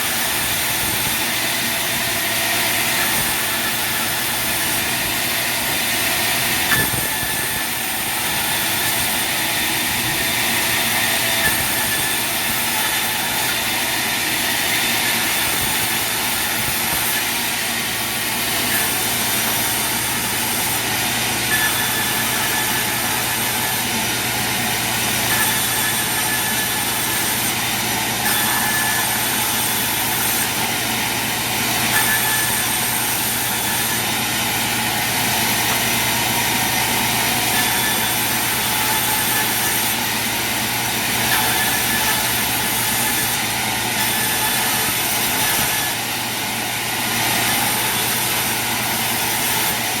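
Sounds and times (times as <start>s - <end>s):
sawmill machinery running: 0.0s - 50.0s.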